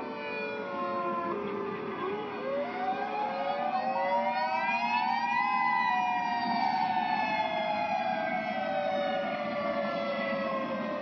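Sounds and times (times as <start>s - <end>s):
tornado warning sirens: 0.0s - 11.0s.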